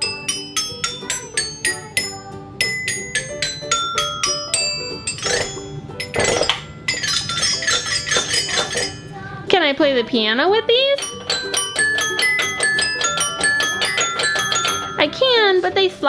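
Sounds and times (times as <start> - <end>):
toy xylophone notes: 0.0 - 16.0.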